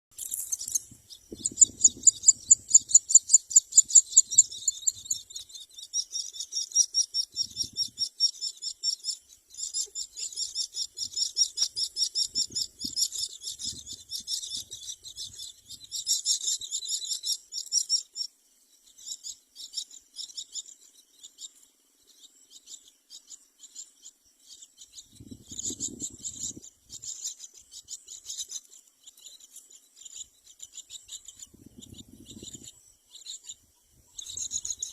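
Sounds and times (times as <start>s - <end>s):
birds making raspy high calls: 0.2s - 18.3s, 18.9s - 34.9s.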